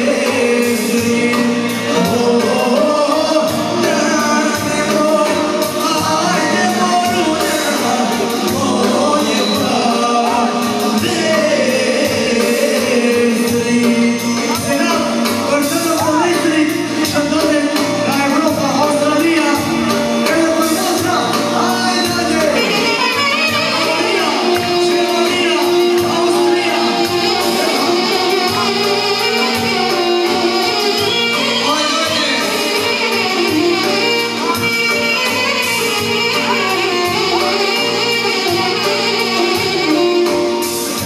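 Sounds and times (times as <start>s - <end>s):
person singing over band: 0.0s - 41.0s.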